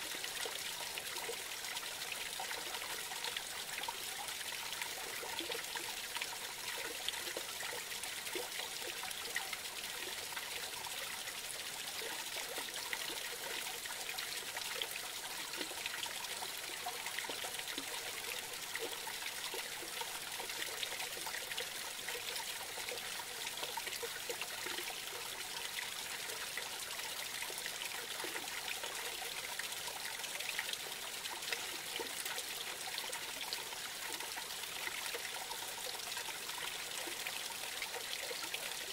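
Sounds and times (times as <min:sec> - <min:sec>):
creek water trickling and splashing: 0:00.0 - 0:38.9.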